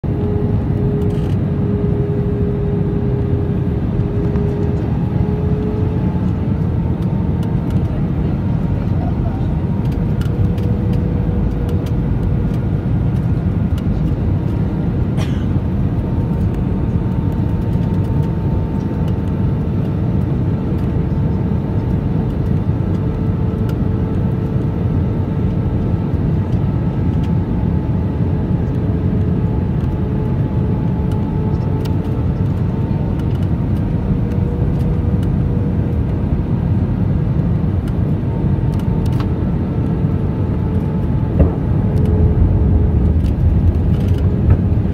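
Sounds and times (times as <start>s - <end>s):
deep roar of airflow and engines: 0.0s - 44.9s.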